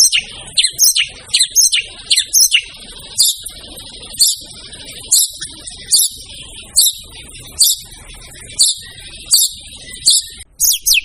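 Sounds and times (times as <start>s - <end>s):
bird singing loudly: 0.0s - 11.0s
sharp high bird calls: 0.0s - 11.0s.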